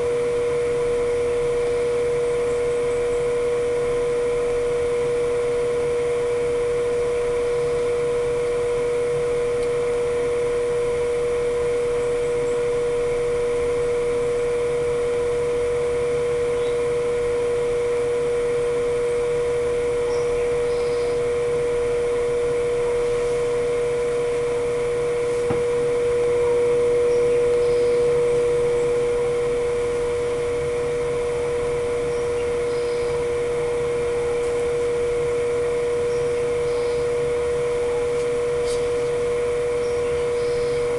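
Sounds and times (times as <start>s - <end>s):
fan motor humming: 0.0s - 40.9s.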